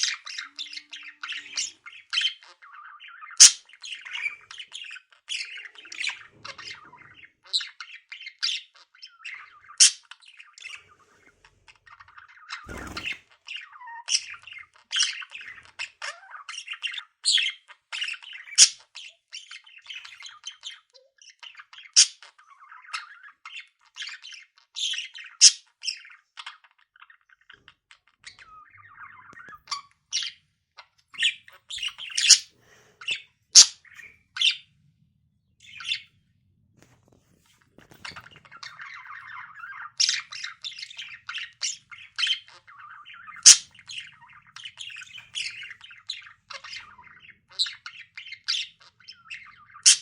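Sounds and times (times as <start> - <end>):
budgerigar chattering: 0.0 - 10.9, 11.8 - 34.7, 37.9 - 50.0.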